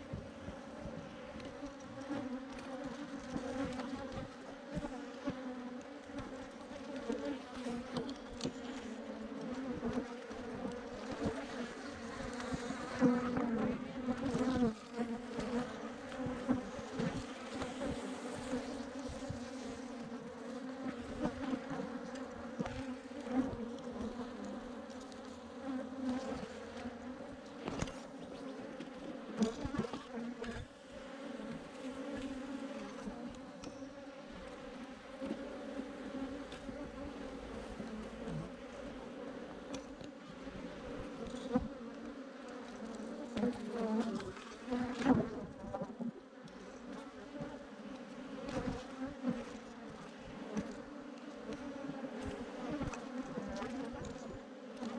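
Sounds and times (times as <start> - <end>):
bee swarm buzzing: 0.0 - 49.4.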